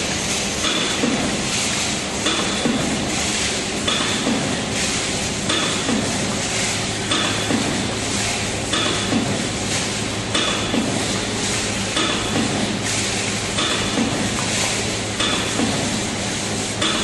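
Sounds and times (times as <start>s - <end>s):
steady motor hum: 0.0s - 17.0s.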